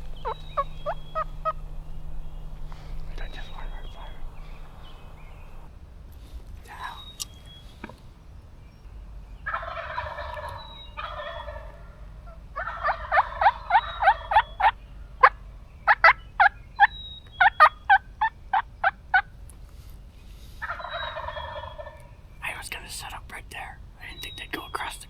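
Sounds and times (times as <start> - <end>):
wild turkey calling: 0.0 - 25.0.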